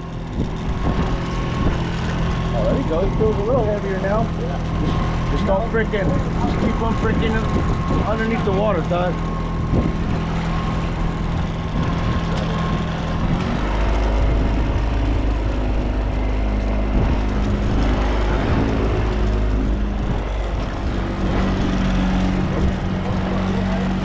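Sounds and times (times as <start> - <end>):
boat engine low drone: 0.0 - 24.0.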